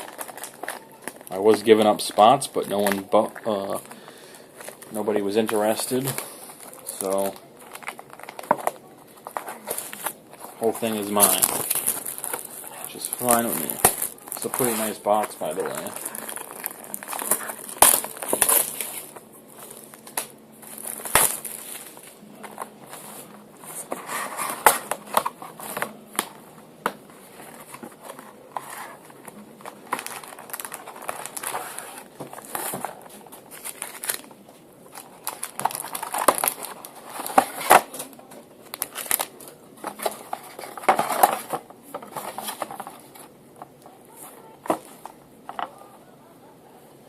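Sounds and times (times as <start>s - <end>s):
plastic wrap and cardboard crinkling: 0.0s - 45.9s.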